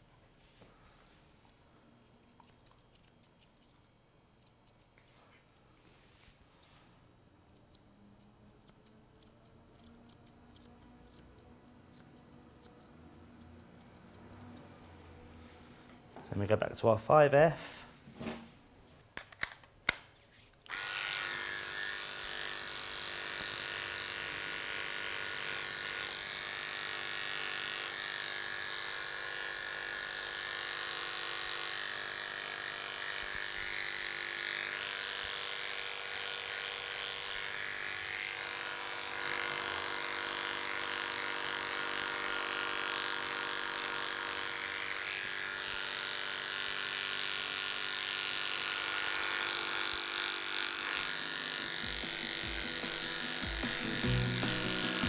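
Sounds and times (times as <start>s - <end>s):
electric clipper humming: 1.0s - 5.4s, 7.4s - 15.5s, 20.6s - 55.0s.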